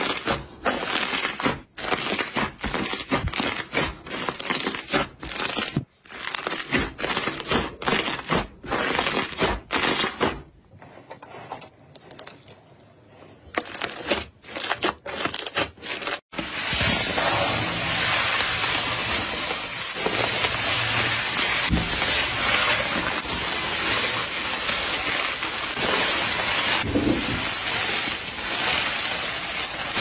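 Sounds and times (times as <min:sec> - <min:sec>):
slime crackling and crunching: 0:00.0 - 0:10.3, 0:13.6 - 0:30.0.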